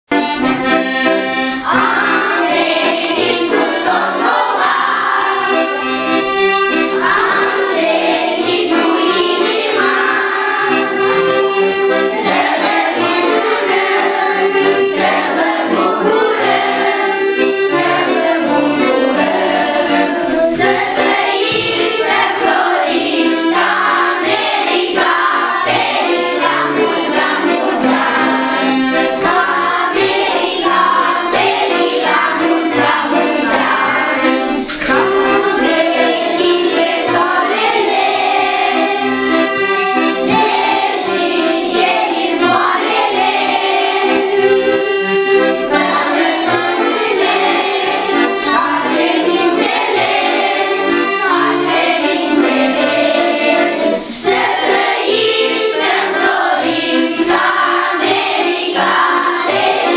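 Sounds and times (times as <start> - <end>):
accordion: 0.0 - 59.9
children singing in chorus: 0.2 - 59.9.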